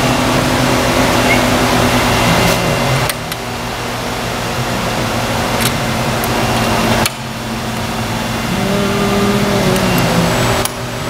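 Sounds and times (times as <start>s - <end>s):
workshop machinery hum: 0.0s - 11.0s.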